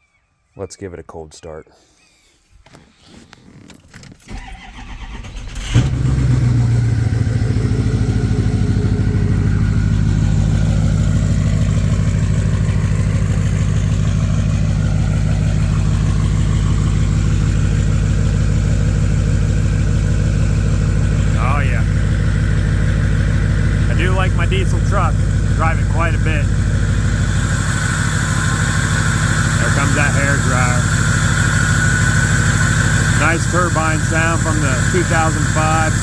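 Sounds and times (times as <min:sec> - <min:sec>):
diesel engine cranking: 0:02.6 - 0:36.0
diesel engine idling: 0:04.3 - 0:36.0.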